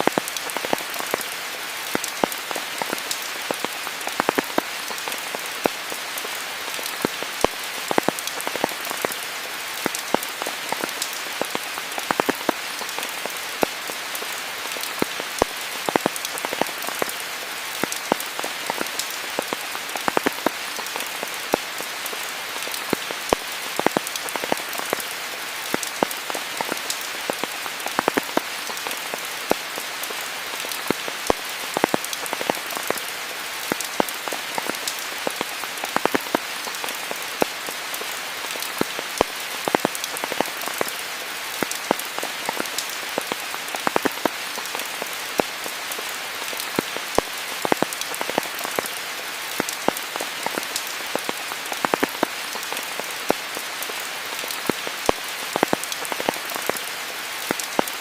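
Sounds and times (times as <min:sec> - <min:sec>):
raindrops tapping: 0:00.0 - 0:09.2, 0:09.8 - 0:17.2, 0:17.8 - 0:41.0, 0:41.6 - 0:56.8, 0:57.4 - 0:58.0
steady rain hiss: 0:00.0 - 0:58.0.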